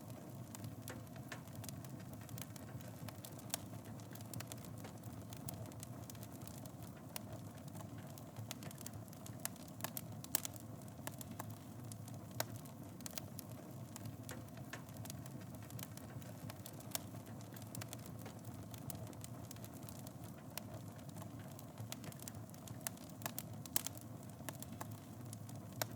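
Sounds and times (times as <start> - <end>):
wood crackling and popping: 0.0 - 25.9.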